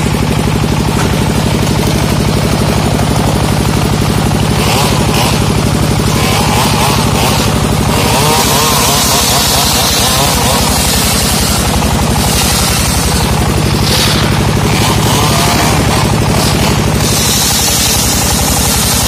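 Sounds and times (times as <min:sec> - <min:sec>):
small engine puttering: 0:00.0 - 0:19.0.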